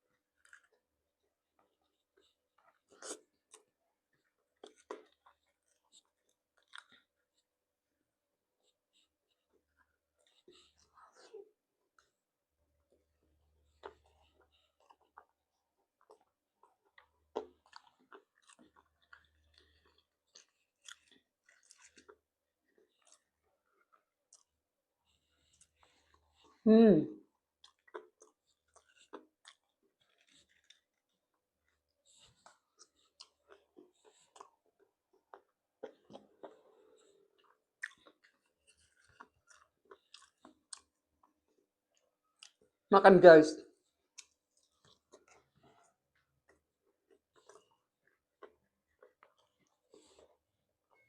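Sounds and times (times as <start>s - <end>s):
chewing and biting: 0.0s - 7.6s, 8.6s - 26.6s, 27.2s - 42.8s, 43.8s - 51.0s.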